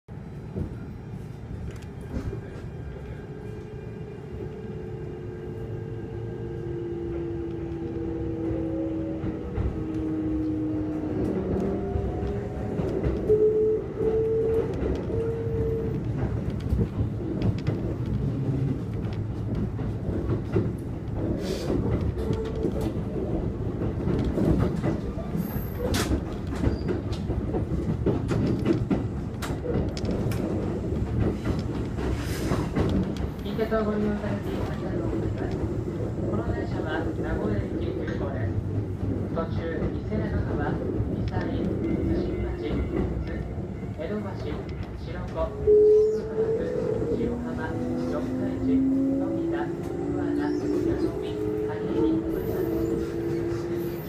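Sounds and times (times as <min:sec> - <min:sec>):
train running rumble: 0:00.1 - 0:54.0.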